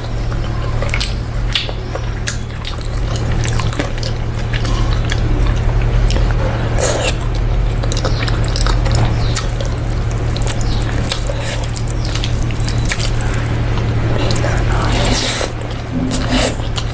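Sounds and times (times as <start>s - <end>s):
low hum: 0.0s - 16.9s
wet squelching and clicks: 0.3s - 16.9s.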